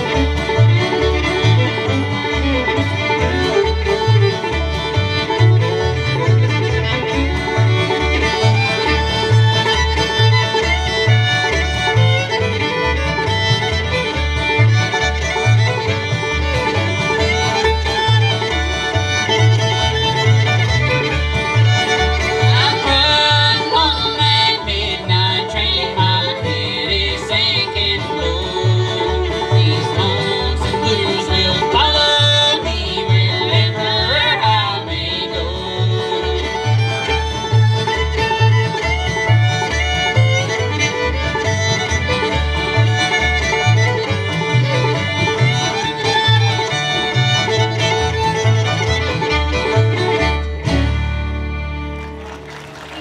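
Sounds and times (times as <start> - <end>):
banjo: 0.0 - 53.0
fiddle melody: 0.0 - 53.0.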